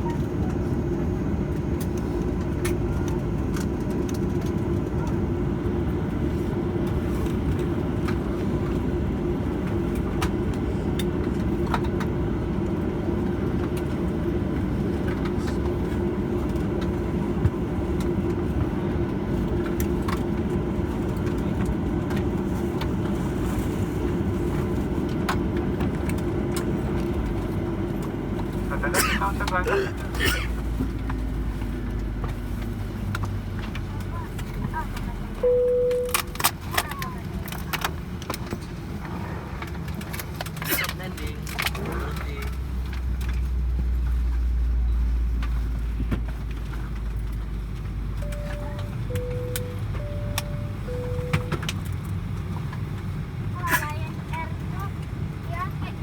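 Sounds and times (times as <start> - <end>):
constant hum: 0.0 - 56.0
idling jet engines rumbling: 0.0 - 56.0.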